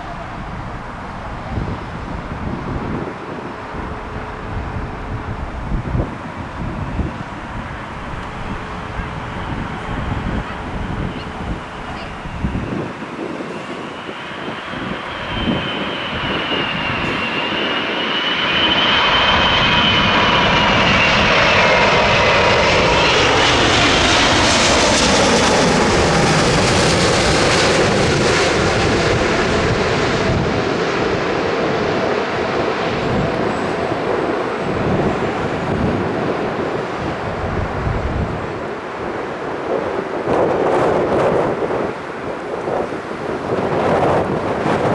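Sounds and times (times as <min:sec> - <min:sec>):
jet airliner passing overhead: 0:00.0 - 0:44.9.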